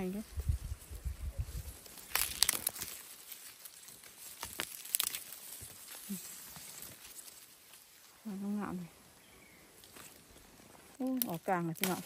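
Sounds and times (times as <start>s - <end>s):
leaves and stems rustling: 0.0s - 12.0s.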